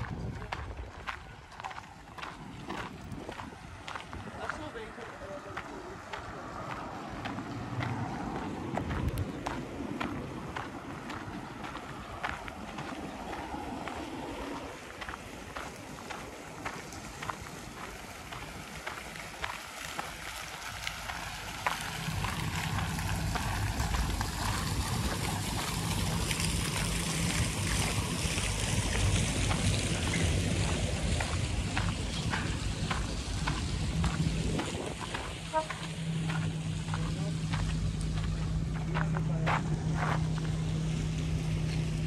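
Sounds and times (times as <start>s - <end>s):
footsteps crunching on gravel: 0.0s - 42.0s
fountain jets splashing into basin: 0.0s - 42.0s
low steady hum: 0.0s - 42.0s.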